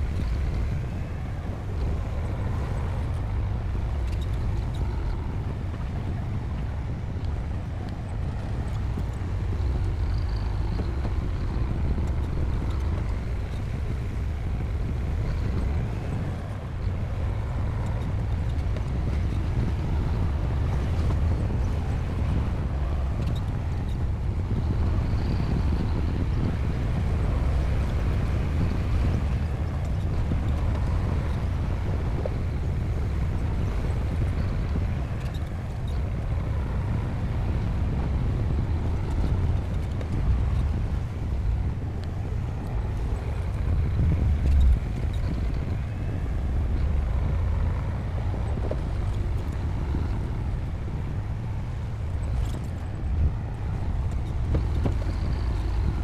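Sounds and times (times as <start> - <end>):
bulldozer diesel engine rumbling: 0.0 - 6.9, 7.6 - 56.0.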